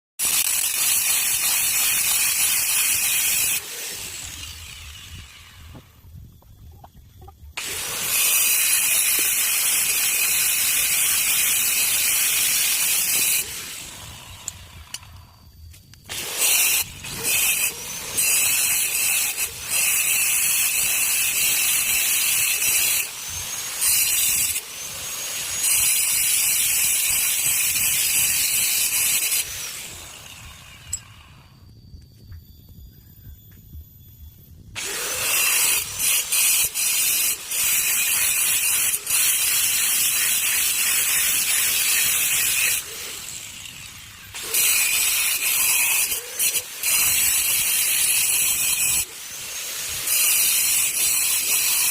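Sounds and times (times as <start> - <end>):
power tool cutting stone: 0.2 - 6.0, 7.6 - 15.2, 16.1 - 31.2, 34.8 - 51.9.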